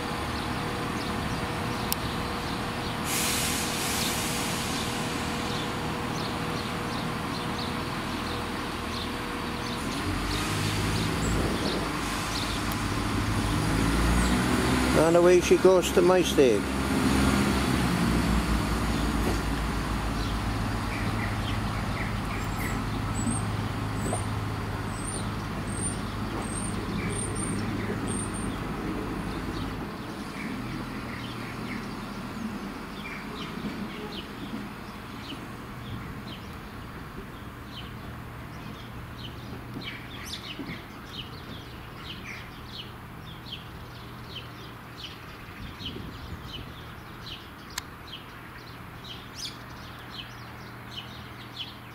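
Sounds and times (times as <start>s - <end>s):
small birds chirping: 0.0s - 3.0s, 4.0s - 16.6s, 18.8s - 51.9s
diesel train engine drone: 0.0s - 51.9s.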